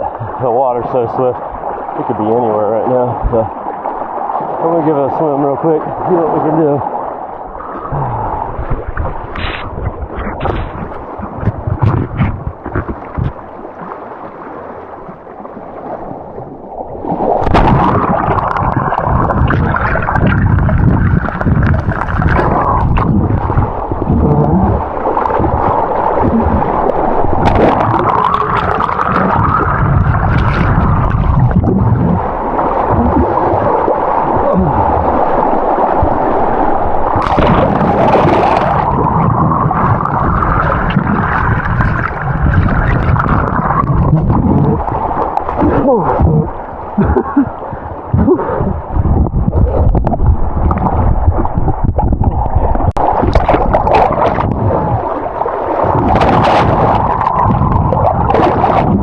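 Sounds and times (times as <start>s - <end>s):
river rushing underwater: 0.0s - 59.0s.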